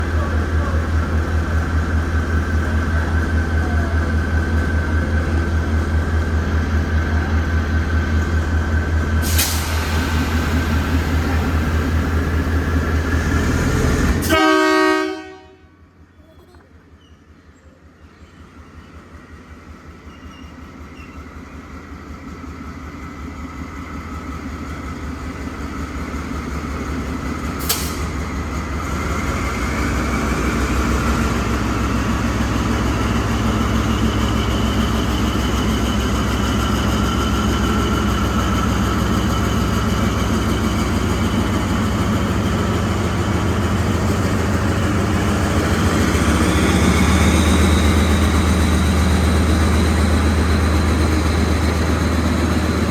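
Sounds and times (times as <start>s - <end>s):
locomotive engine rumble: 0.0s - 52.9s.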